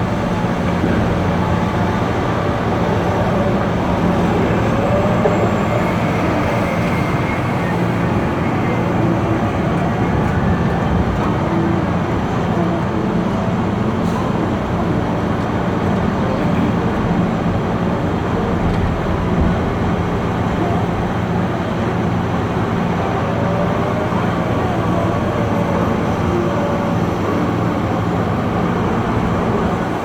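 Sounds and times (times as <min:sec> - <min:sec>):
heavy diesel engine under load: 0:00.0 - 0:30.0.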